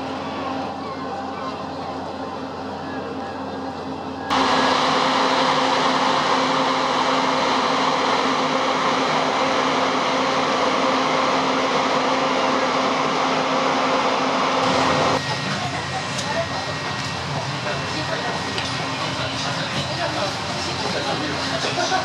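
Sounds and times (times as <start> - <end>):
ship machinery rushing din: 4.3 - 22.0.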